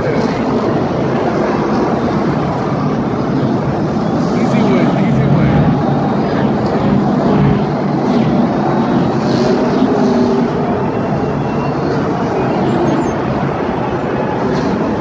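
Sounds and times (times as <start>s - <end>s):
car engines running: 0.0s - 15.0s.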